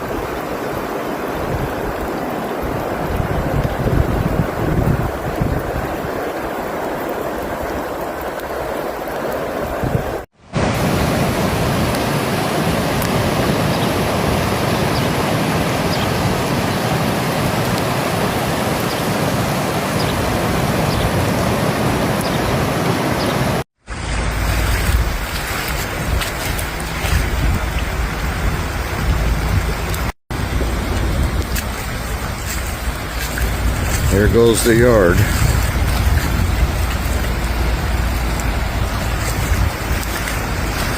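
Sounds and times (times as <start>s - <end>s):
floodwater rushing: 0.0s - 40.9s.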